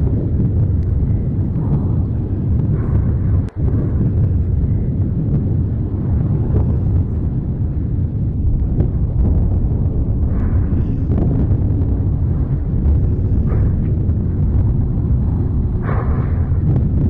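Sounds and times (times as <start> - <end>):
lava fountain deep rumble: 0.0 - 17.0.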